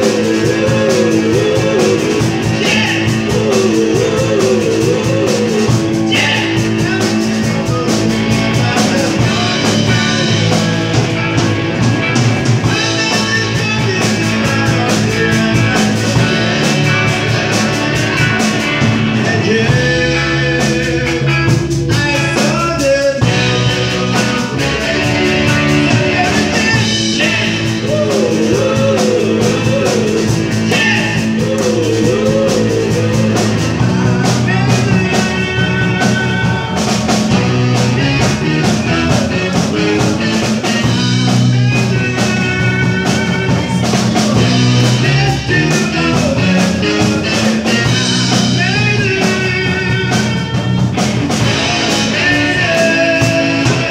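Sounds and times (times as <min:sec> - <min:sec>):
drum kit beat: 0:00.0 - 0:53.9
electric guitars: 0:00.0 - 0:53.9.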